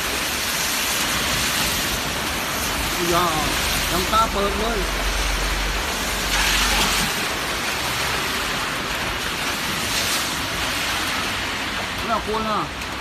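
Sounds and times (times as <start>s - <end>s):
heavy rain hissing: 0.0s - 13.0s
wind: 0.0s - 13.0s.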